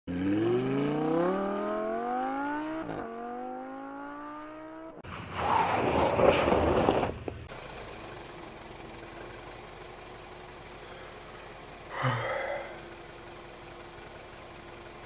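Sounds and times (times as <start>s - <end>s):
car engine accelerating: 0.1s - 6.0s, 6.9s - 15.0s.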